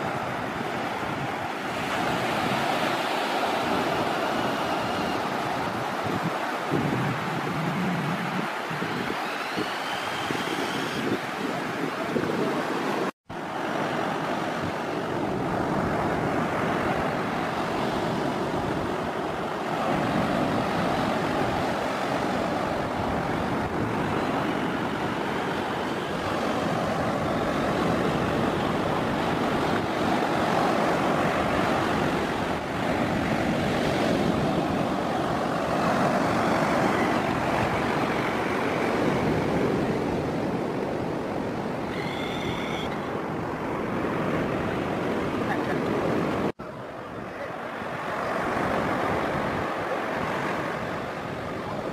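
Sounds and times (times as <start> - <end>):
ocean surf washing up beach: 0.0 - 51.9
wind buffeting microphone: 0.0 - 51.9.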